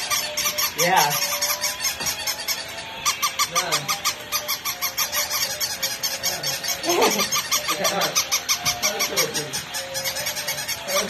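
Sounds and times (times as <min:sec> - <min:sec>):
toy dog yelping barks: 0:00.0 - 0:11.0
toy electronic ticking and beeping: 0:00.0 - 0:11.0.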